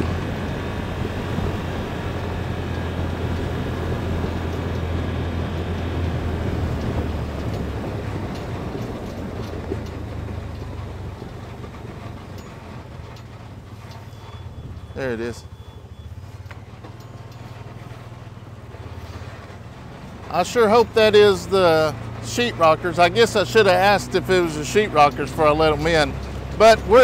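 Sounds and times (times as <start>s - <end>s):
motor vehicle running: 0.0s - 27.0s.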